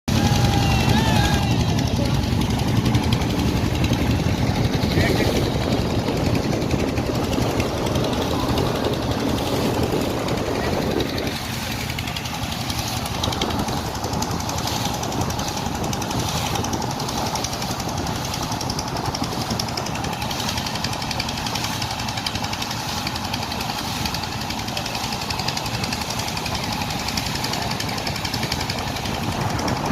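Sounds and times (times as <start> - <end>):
motorboat engine running: 0.1 - 29.9.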